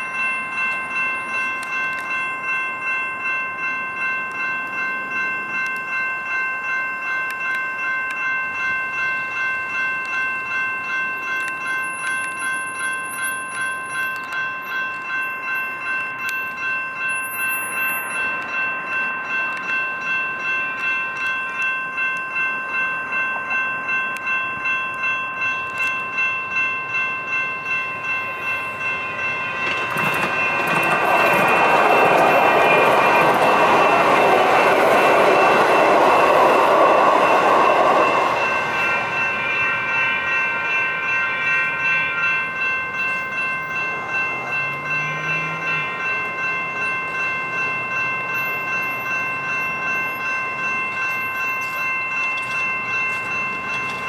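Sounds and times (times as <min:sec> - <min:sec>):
railroad crossing bells: 0:00.0 - 0:54.0
train wheels on rails: 0:00.0 - 0:54.0.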